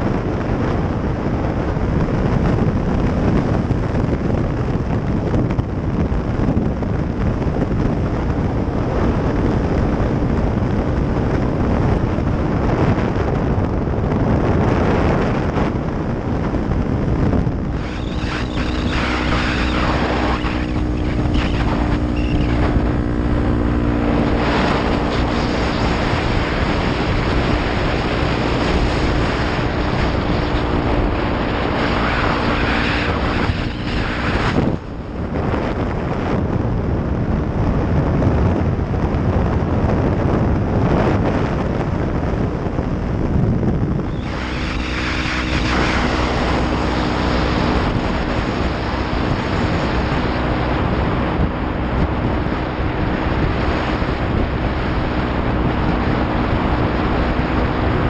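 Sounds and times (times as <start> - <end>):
motorcycle engine running: 0.0 - 58.0
wind noise on helmet: 0.0 - 58.0.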